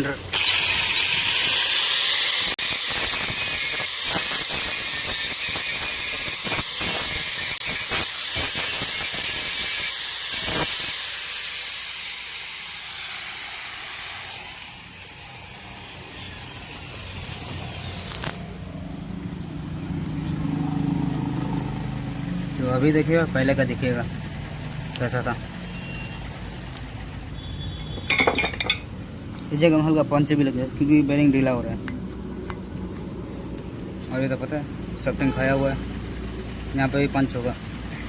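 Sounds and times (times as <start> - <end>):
angle grinder grinding: 0.0 - 32.3.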